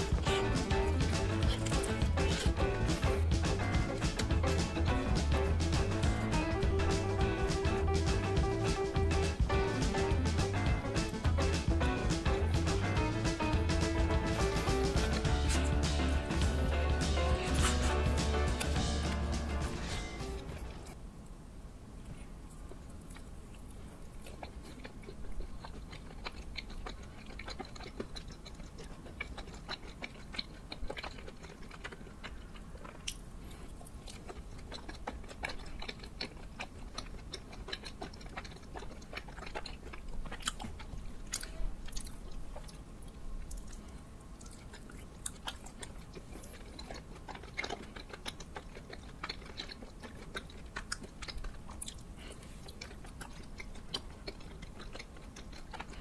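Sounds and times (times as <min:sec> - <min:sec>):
mouth clicks and smacks: 0:00.0 - 0:19.2, 0:22.8 - 0:56.0
chewing sticky rice cakes: 0:00.0 - 0:21.0, 0:22.0 - 0:56.0.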